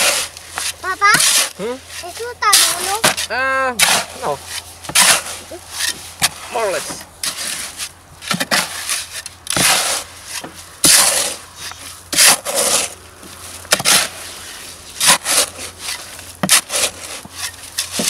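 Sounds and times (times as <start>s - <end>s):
shovel scraping wet concrete: 0.0s - 18.0s.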